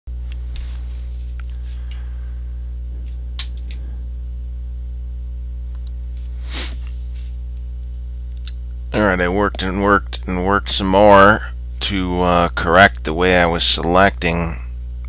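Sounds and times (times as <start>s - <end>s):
electrical mains hum: 0.1s - 15.0s.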